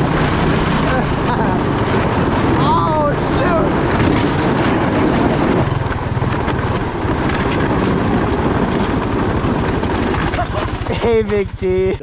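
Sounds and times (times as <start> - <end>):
sled scraping over ice: 0.0 - 11.6
atv engine running: 0.0 - 12.0.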